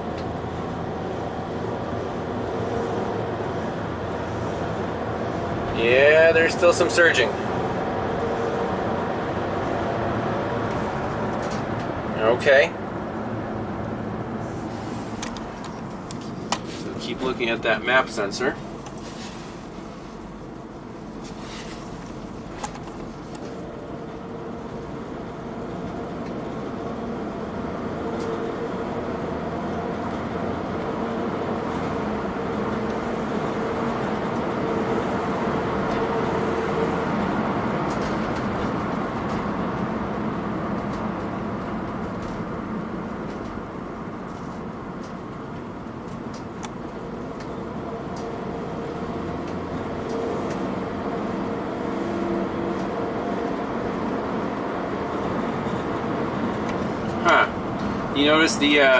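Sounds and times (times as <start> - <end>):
road noise: 0.0 - 58.9
van engine running: 0.0 - 58.9.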